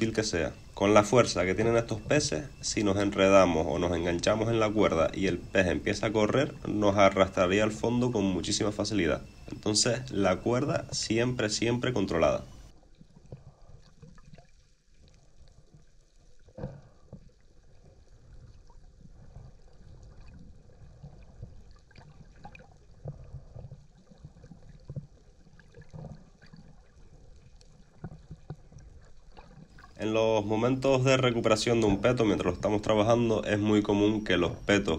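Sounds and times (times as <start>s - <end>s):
underwater gurgling and sloshing: 0.0s - 34.9s.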